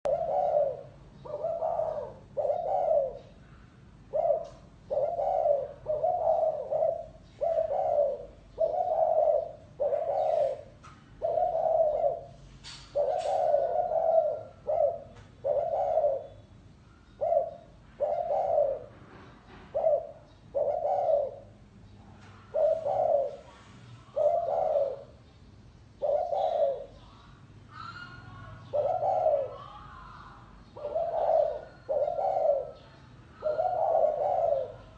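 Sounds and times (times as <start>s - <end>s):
dove cooing: 0.1s - 19.0s, 19.7s - 21.6s, 22.2s - 25.2s, 26.0s - 34.9s.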